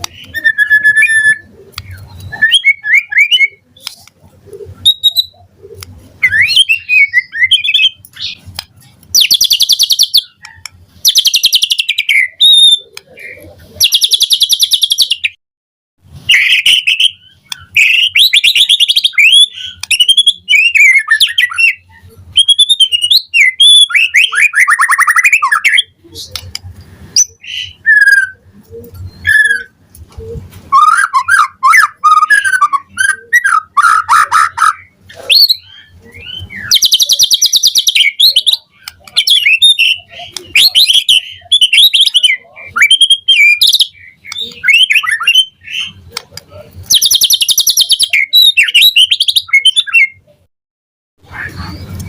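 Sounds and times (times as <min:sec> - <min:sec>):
bird singing whistled song: 0:00.0 - 0:03.9, 0:04.8 - 0:05.4, 0:06.2 - 0:08.4, 0:09.2 - 0:13.0, 0:13.8 - 0:15.4, 0:16.3 - 0:25.9, 0:27.2 - 0:28.4, 0:29.0 - 0:29.8, 0:30.7 - 0:46.0, 0:46.9 - 0:50.2.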